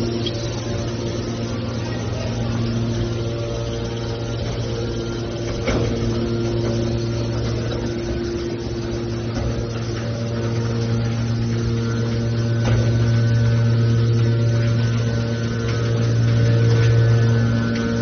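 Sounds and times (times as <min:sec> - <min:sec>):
hydraulic power unit humming: 0:00.0 - 0:18.0.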